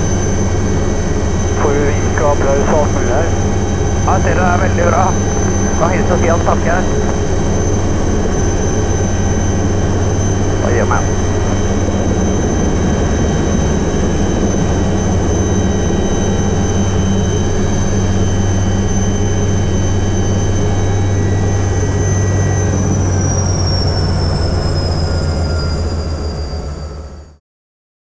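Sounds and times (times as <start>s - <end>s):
helicopter rotor drone: 0.0s - 27.4s
helicopter turbine whine: 0.0s - 27.4s.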